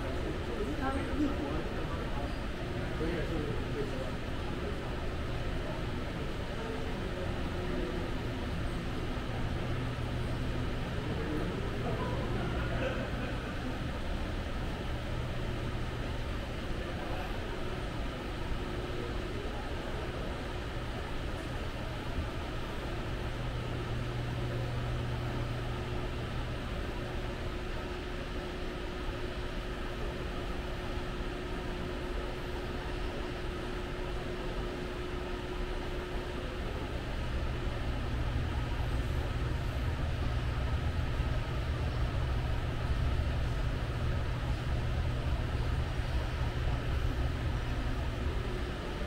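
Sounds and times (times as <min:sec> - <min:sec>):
even background noise: 0:00.0 - 0:49.0
low mechanical hum: 0:00.0 - 0:49.0.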